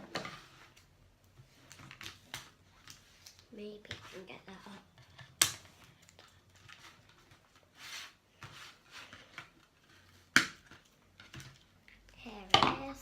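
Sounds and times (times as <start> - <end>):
cardboard and plastic rustling: 0.0 - 12.9.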